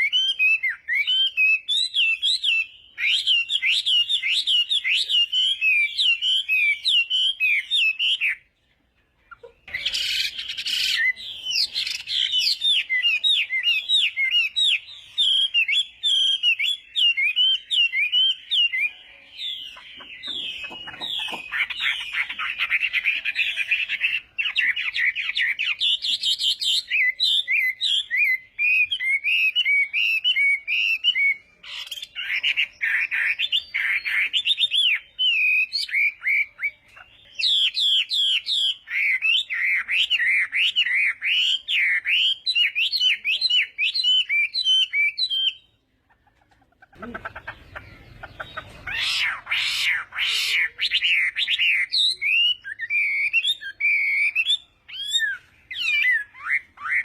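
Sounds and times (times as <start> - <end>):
bird singing whistled notes: 0.0 - 8.5, 9.6 - 45.9, 47.5 - 57.0.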